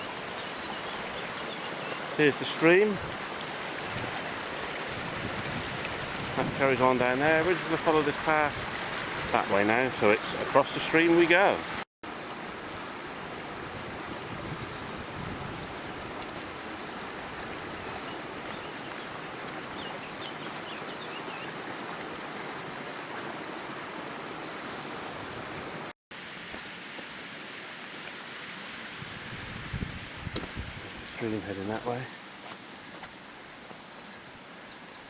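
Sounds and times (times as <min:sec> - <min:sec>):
stream water rushing: 0:00.0 - 0:33.4.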